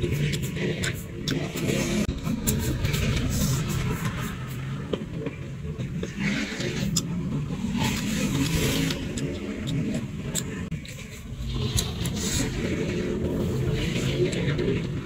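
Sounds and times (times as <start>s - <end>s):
low rumble: 1.5s - 15.0s.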